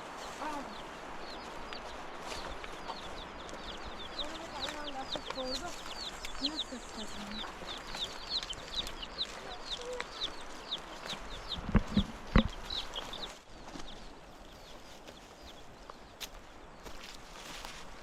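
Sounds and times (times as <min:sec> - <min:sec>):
birds peeping: 0:00.0 - 0:18.0.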